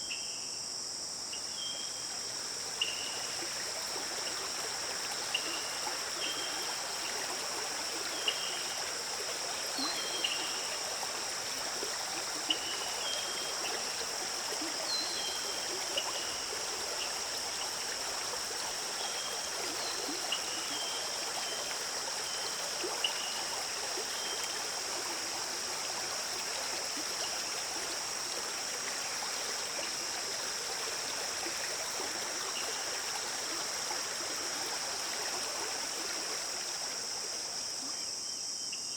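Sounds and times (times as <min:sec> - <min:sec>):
stream running: 0:00.7 - 0:38.7.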